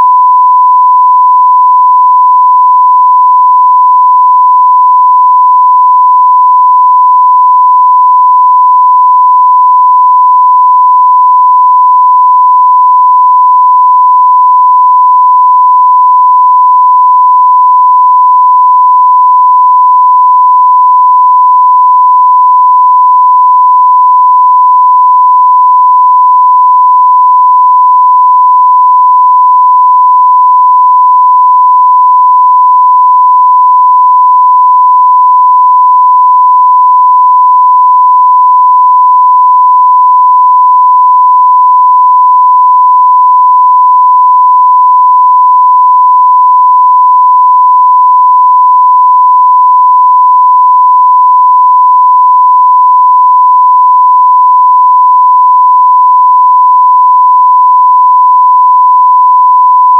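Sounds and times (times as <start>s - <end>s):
sine wave test tone: 0.0s - 59.9s.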